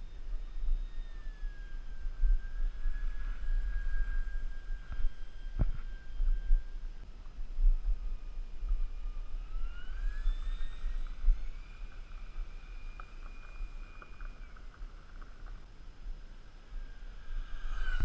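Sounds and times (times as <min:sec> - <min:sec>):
model jet whine: 0:00.0 - 0:18.0
wind rumble on microphone: 0:00.0 - 0:18.0.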